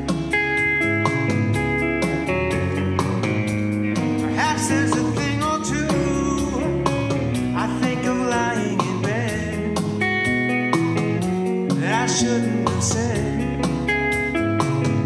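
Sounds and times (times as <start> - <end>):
electric bass: 0.0 - 15.0
electric guitar lead: 0.0 - 15.0
steady drum beat: 0.0 - 15.0.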